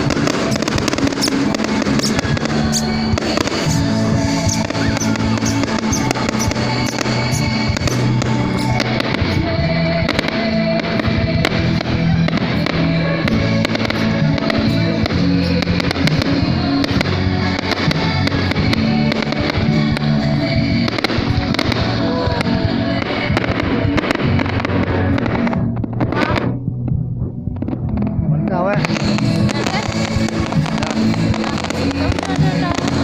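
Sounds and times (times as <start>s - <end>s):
fireworks popping and crackling: 0.0s - 26.6s, 27.5s - 33.0s
loud music: 0.0s - 33.0s.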